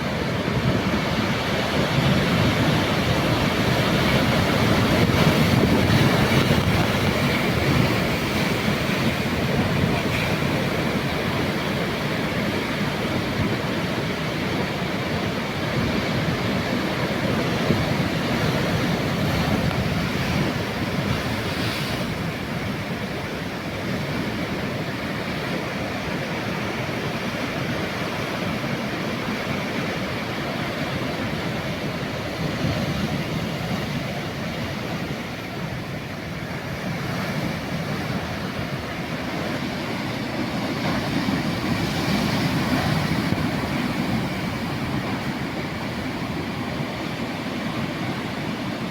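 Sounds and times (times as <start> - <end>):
ocean waves breaking: 0.0 - 48.9.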